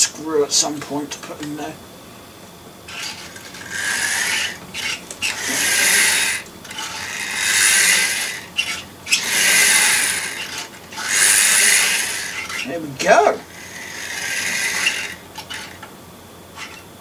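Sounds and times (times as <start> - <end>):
model locomotive motor whirring: 2.9 - 17.0.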